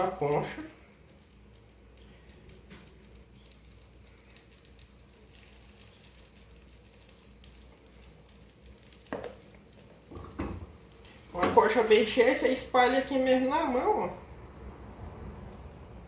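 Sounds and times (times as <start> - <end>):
batter sizzling in a frying pan: 0.0 - 14.1.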